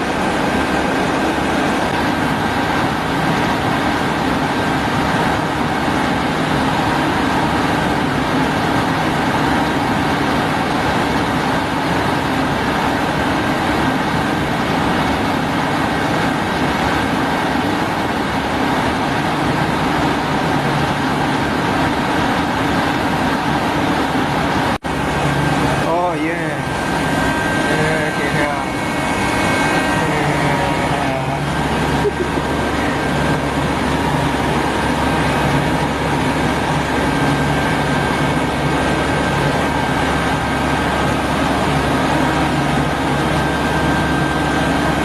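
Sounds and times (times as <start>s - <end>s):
machinery running: 0.0s - 45.0s
thin constant whine: 0.0s - 45.0s.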